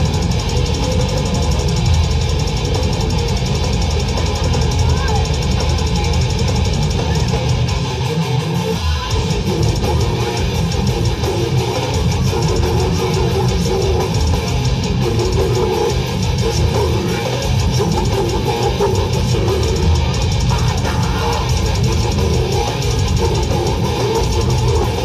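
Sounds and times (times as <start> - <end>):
distorted electric guitars: 0.0 - 25.0
drum kit playing: 0.0 - 25.0.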